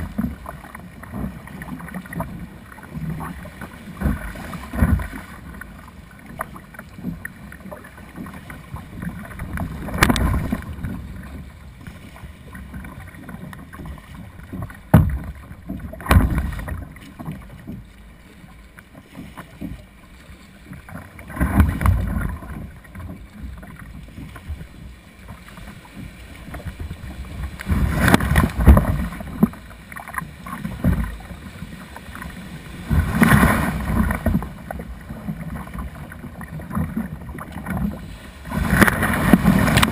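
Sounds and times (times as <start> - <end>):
water washing steadily: 0.0 - 39.9
waves splashing on hull: 0.0 - 39.9.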